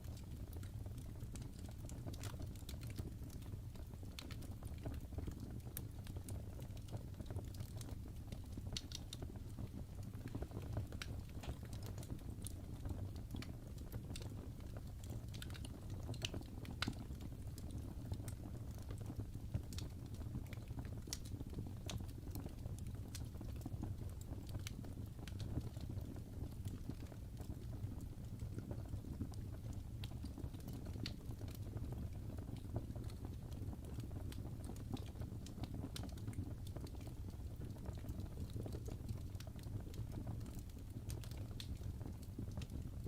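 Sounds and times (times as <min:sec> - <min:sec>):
fire crackles and pops: 0:00.0 - 0:43.0
wood fire rumbling: 0:00.1 - 0:43.0.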